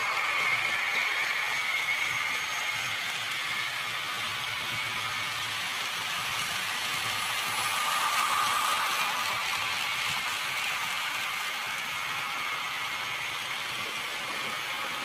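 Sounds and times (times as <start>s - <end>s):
model train whirring past: 0.0s - 15.0s.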